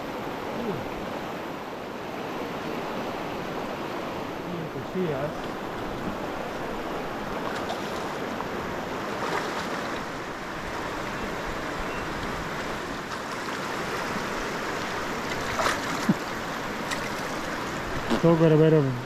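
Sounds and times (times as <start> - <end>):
rocky river rushing: 0.0 - 19.0.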